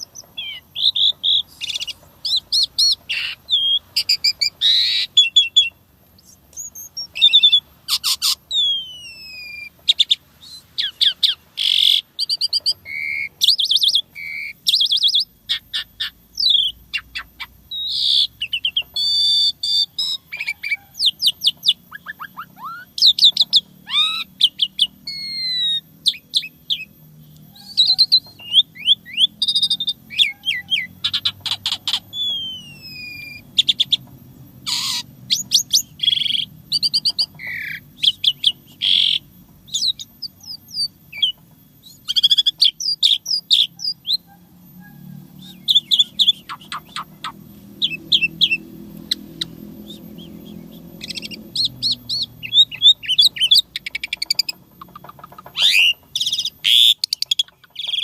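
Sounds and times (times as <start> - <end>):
harsh rasping bird calls: 0.0 - 58.0
starling singing whistles and trills: 0.0 - 58.0.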